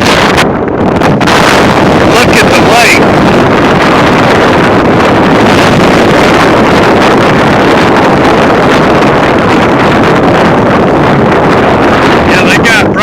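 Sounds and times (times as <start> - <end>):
wind roaring over microphone: 0.0 - 13.0.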